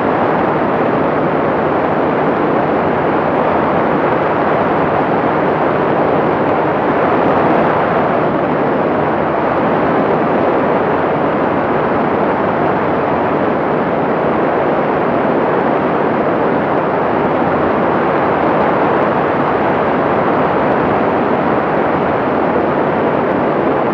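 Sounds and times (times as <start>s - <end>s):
aircraft engine drone: 0.0s - 23.9s.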